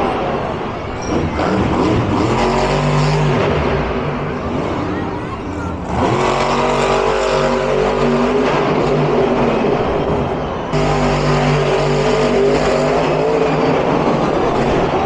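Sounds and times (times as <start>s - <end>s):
monster truck engines growling: 0.0s - 15.0s.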